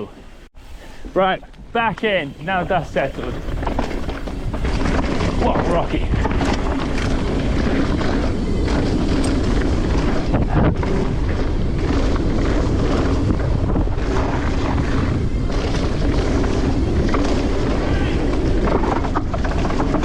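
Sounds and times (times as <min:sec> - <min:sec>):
wind buffeting microphone: 0:01.5 - 0:20.0
bike tyres rumbling over stones: 0:02.0 - 0:20.0.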